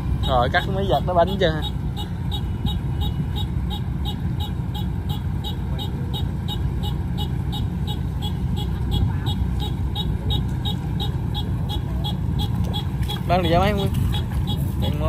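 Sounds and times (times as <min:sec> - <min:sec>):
harvester engine rumbling: 0:00.0 - 0:15.0.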